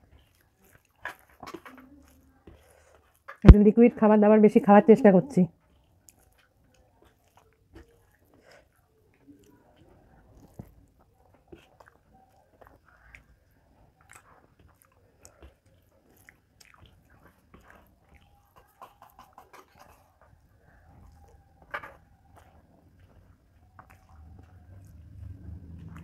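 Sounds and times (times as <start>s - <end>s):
soft chewing: 0.0s - 3.6s, 5.0s - 26.0s.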